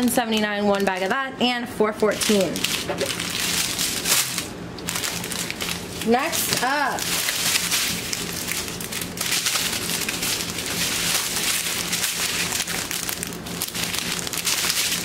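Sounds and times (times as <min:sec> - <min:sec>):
plastic packaging crinkling: 0:02.1 - 0:15.0.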